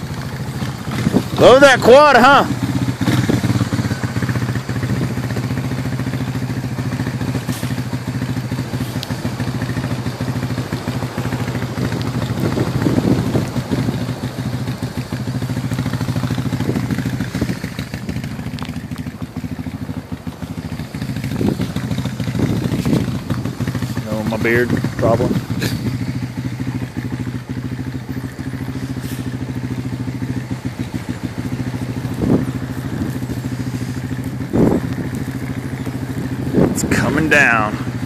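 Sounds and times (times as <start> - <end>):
engine running with low hum: 0.0 - 38.0.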